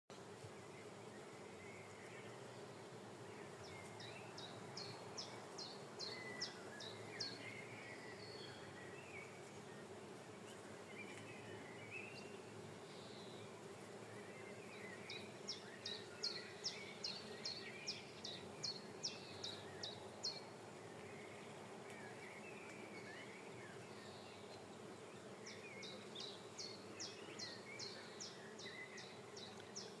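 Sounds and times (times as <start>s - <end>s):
bees buzzing: 0.2s - 30.0s.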